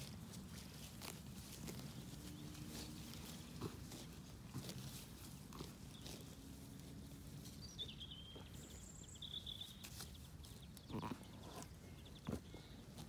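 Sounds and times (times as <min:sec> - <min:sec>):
birds singing: 0:01.6 - 0:04.1, 0:04.9 - 0:13.0.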